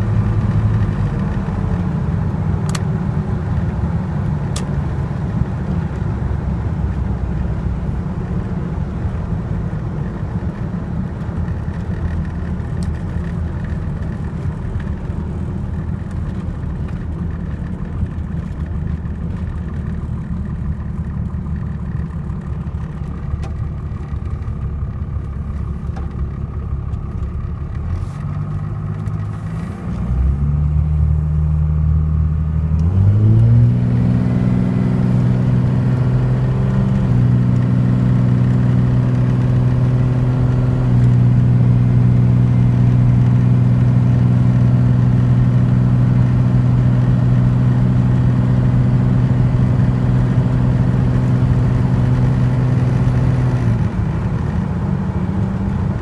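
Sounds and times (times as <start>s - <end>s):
diesel engine rumble: 0.0s - 56.0s.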